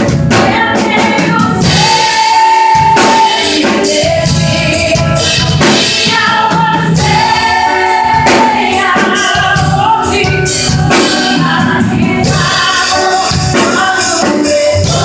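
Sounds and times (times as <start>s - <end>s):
instrumental accompaniment: 0.0s - 15.0s
steady drum beat: 0.0s - 15.0s
woman singing into a microphone: 0.0s - 15.0s.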